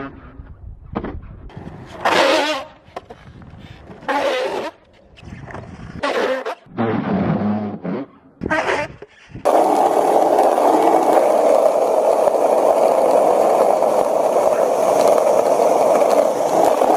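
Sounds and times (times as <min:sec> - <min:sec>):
skateboard wheels rolling on pavement: 0:01.4 - 0:07.8, 0:08.5 - 0:16.9.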